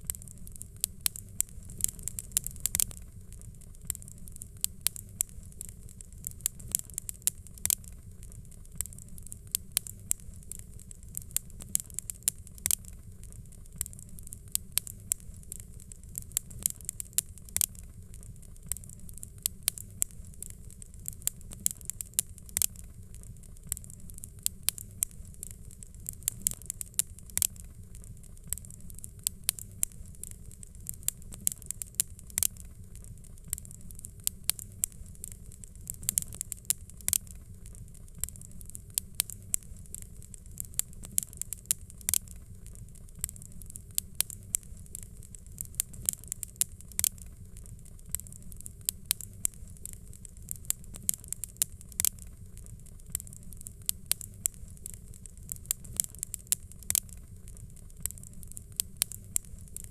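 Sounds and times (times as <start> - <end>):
fire crackling and popping: 0.0 - 59.9
low rumble of burning: 0.0 - 59.9.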